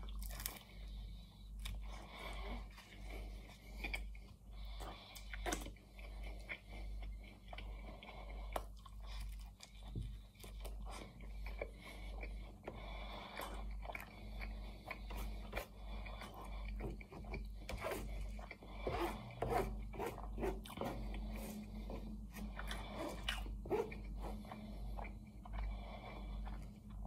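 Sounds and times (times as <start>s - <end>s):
person chewing pastry: 0.0s - 27.0s.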